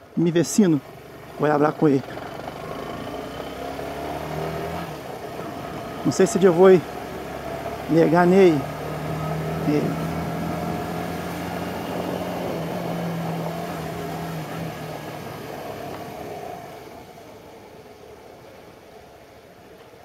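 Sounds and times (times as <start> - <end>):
wind and road noise: 0.0 - 20.0
motorcycle engine running: 0.8 - 17.0.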